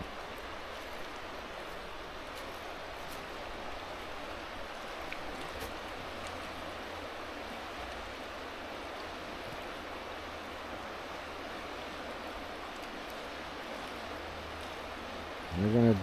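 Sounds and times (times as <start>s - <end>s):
fast river rushing: 0.0s - 16.0s.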